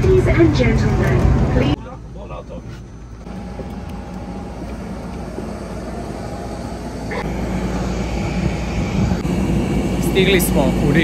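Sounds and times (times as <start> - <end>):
turboprop engine humming: 0.0 - 11.0.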